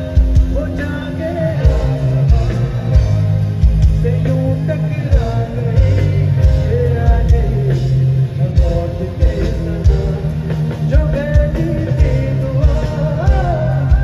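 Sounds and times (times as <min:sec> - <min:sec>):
bass guitar: 0:00.0 - 0:14.0
drums with steady beat: 0:00.0 - 0:14.0
keyboard playing: 0:00.0 - 0:14.0
man singing: 0:00.0 - 0:14.0.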